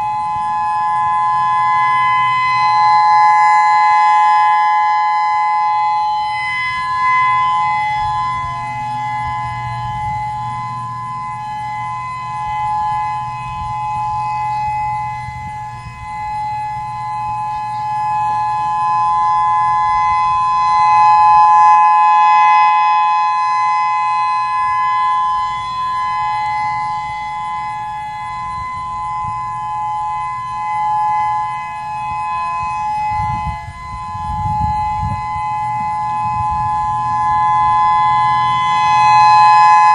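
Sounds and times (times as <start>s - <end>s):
outdoor warning siren steady tones: 0.0s - 39.9s.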